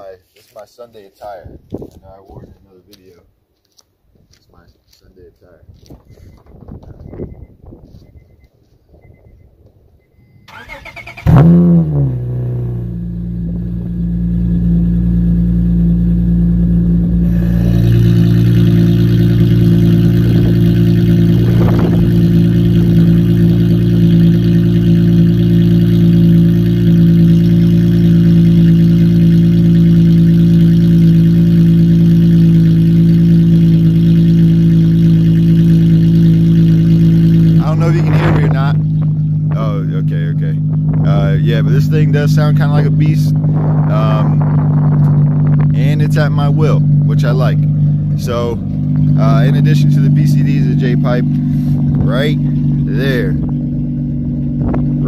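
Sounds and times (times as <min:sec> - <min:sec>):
car engine starting and idling: 0:06.0 - 0:55.0.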